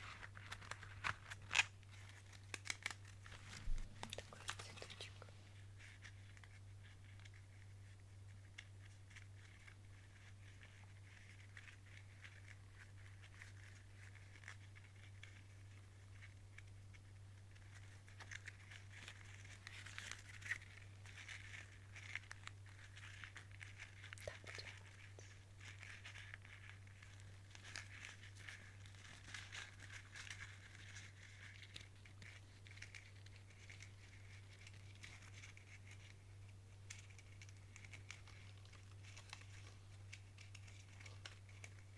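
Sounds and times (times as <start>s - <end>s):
crinkly rustling: 0.0s - 41.9s.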